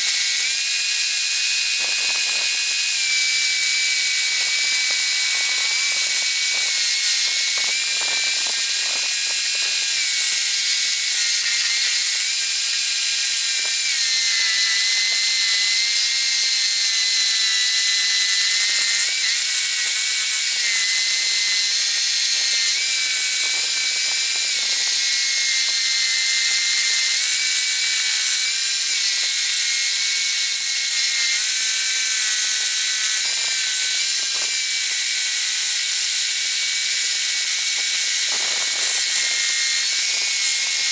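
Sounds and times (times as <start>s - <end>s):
scroll saw cutting wood: 0.0s - 40.9s.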